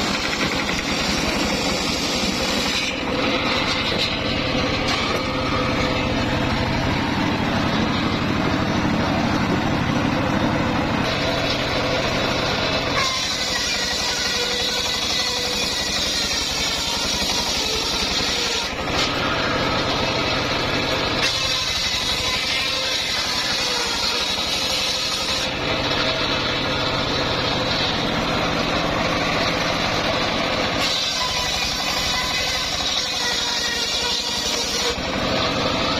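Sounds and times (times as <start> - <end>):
saw whine: 0.0 - 35.9
sawmill engine running: 0.0 - 35.9.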